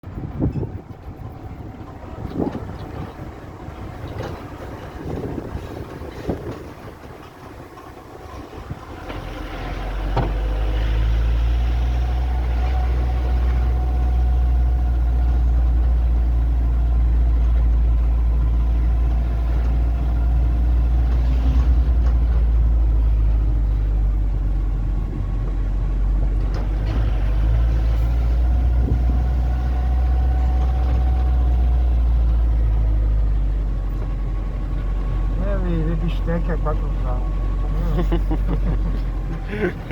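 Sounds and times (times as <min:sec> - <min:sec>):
engine low rumble: 0:00.0 - 0:39.9.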